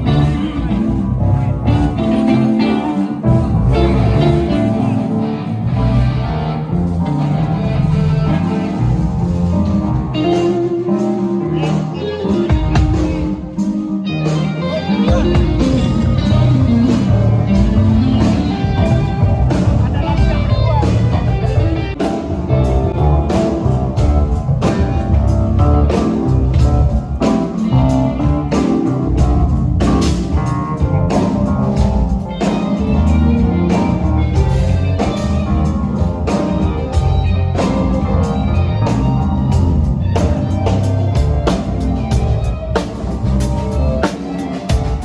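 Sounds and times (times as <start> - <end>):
drum kit beat: 0.0 - 5.2, 6.7 - 45.0
bass: 0.0 - 45.0
electric guitar: 0.0 - 45.0.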